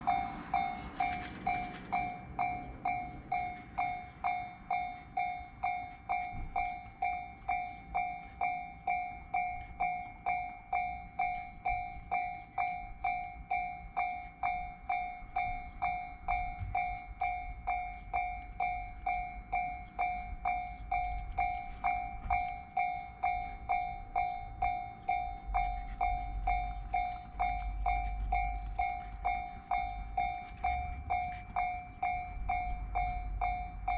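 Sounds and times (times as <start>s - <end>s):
level crossing bell ringing: 0.0s - 33.9s
train rumble: 0.0s - 33.9s.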